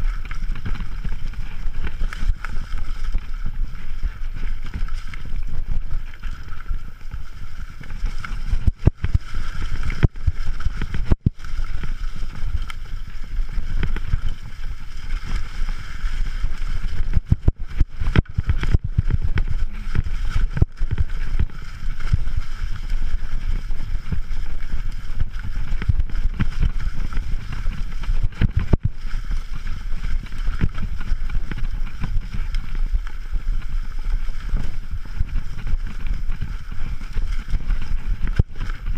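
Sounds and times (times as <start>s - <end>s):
bike rattling: 0.0s - 38.9s
wind rumble on microphone: 0.0s - 38.9s.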